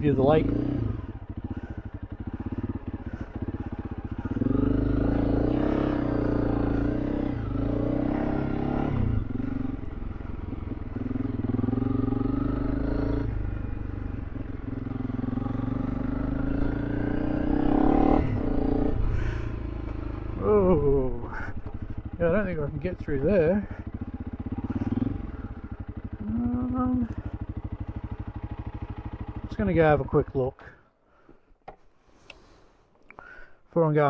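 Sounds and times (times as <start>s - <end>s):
motorcycle engine revving: 0.0s - 30.3s.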